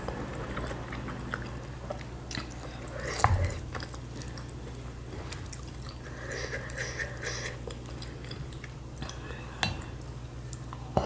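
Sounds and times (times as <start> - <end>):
soft chewing: 0.0 - 11.0
steady low hum: 0.0 - 11.0.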